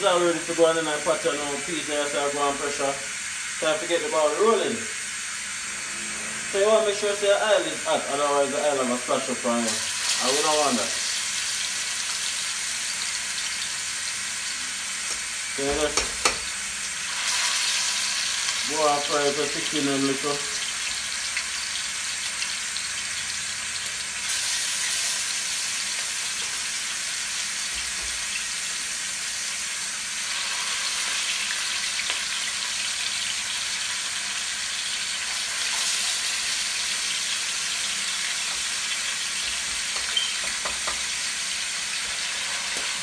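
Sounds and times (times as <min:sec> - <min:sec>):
chicken sizzling in hot oil: 0:00.0 - 0:43.0.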